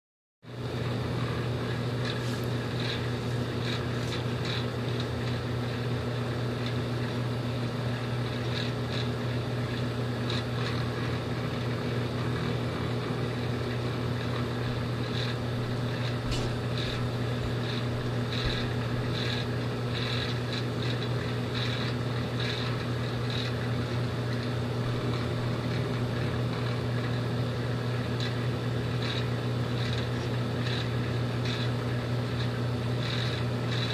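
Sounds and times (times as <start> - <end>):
microwave oven humming: 0.5 - 33.9.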